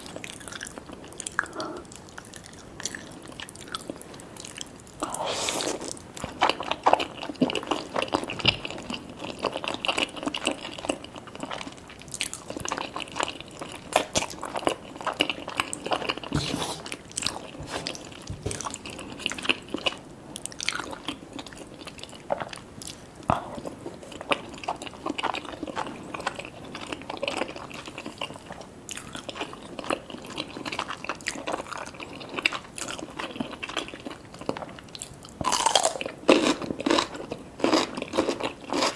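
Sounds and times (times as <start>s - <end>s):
chewing food: 0.0s - 38.9s.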